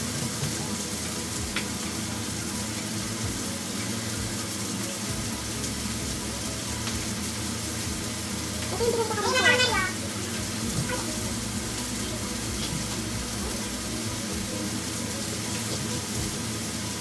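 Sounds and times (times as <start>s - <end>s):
beef sizzling in a frying pan: 0.0s - 17.0s
hamburger steak frying: 0.0s - 17.0s.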